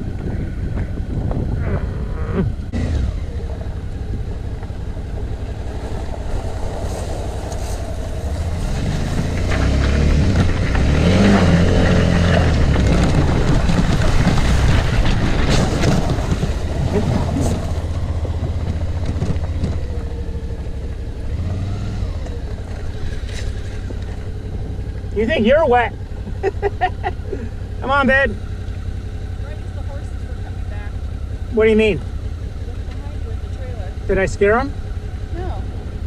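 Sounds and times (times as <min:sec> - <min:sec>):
motorcycle engine under load: 0:00.0 - 0:36.0.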